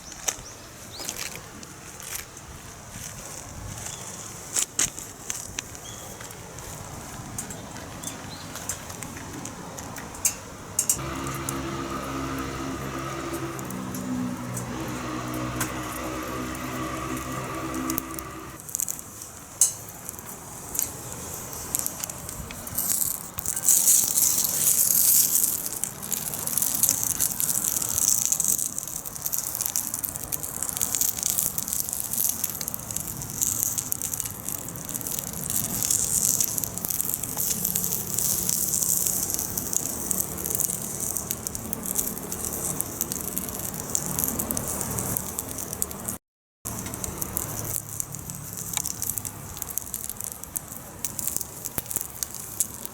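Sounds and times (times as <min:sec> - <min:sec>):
fire crackling and popping: 0:04.4 - 0:52.9
wood fire hissing: 0:10.5 - 0:52.9.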